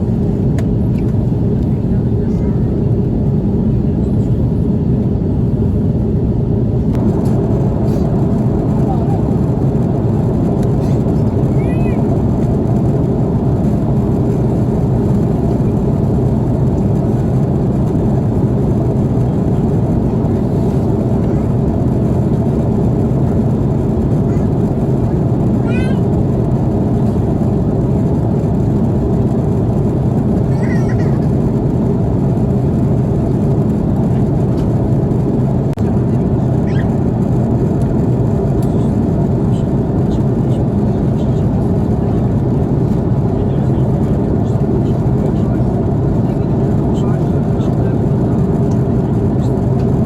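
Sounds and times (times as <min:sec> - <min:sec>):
airliner cabin engine drone: 0:00.0 - 0:50.0.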